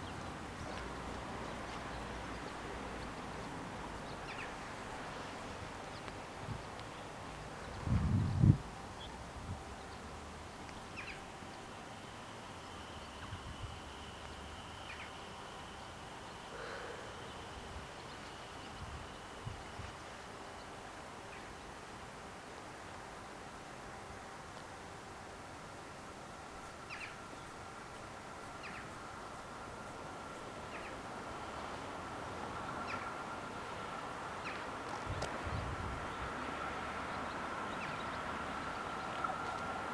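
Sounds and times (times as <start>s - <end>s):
faint outdoor background: 0.0s - 39.9s
faint steady hum: 0.0s - 39.9s.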